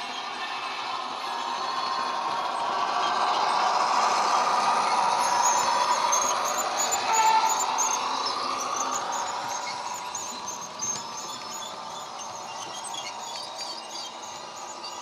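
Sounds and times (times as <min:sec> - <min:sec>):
model train diesel engine sound: 0:00.0 - 0:15.0
wheels clicking on track: 0:00.0 - 0:15.0.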